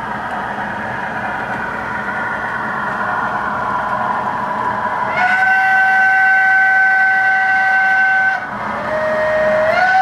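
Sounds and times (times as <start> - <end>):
model train wheels rumbling: 0.0 - 10.0.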